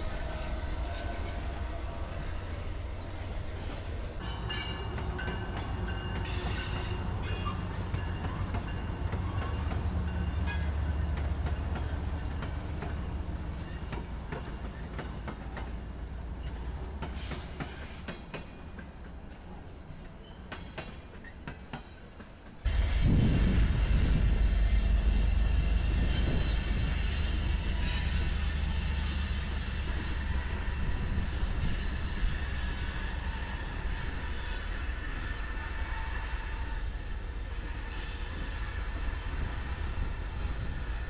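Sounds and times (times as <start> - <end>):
diesel locomotives rumbling: 0.0 - 41.0.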